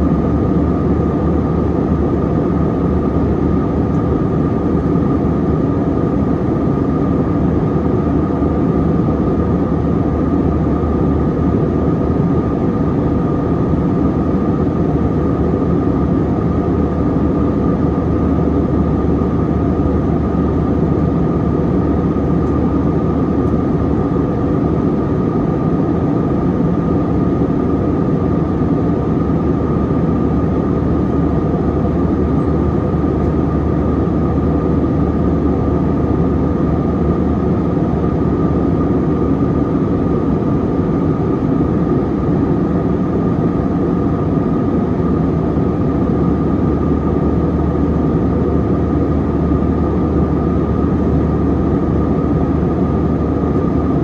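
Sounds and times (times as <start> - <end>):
jet engine cabin rumble: 0.0 - 54.0
steady engine whine: 0.0 - 54.0.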